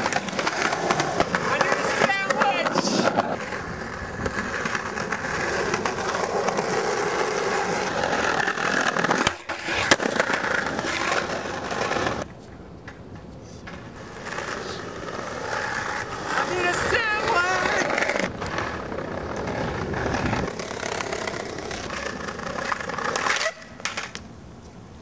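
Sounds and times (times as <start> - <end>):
skateboard clack: 0.0 - 24.3
skateboard wheels rolling on pavement: 0.0 - 25.0.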